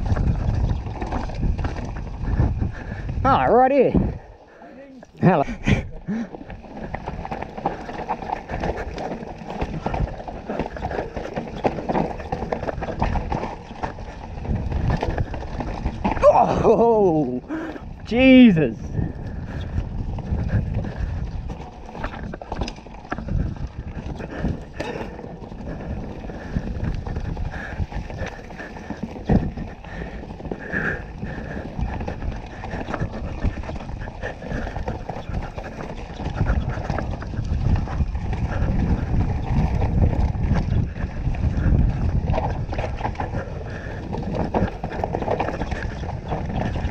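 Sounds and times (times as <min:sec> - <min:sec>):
tyres rumbling over dirt and rock: 0:00.0 - 0:03.2, 0:05.5 - 0:46.9
bike rattling and knocking: 0:00.0 - 0:04.2, 0:05.2 - 0:18.1, 0:18.9 - 0:46.9.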